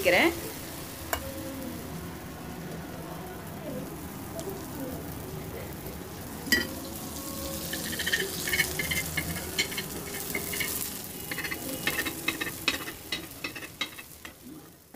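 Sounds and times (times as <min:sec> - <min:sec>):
batter sizzling on a griddle: 0:00.0 - 0:14.9.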